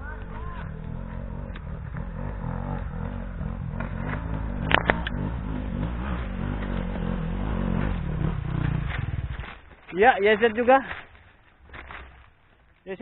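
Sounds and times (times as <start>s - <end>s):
dirt bike engine running unevenly: 0.0s - 12.6s.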